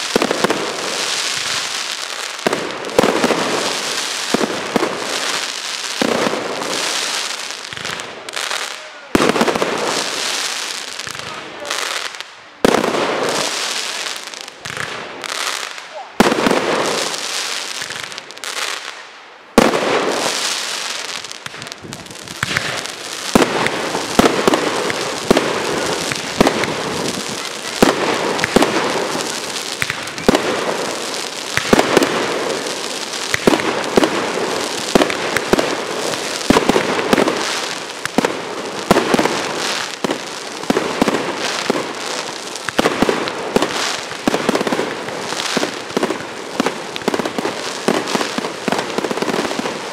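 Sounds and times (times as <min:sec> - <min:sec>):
firework crackle: 0:00.0 - 0:49.9
fireworks bangs and pops: 0:00.0 - 0:49.9.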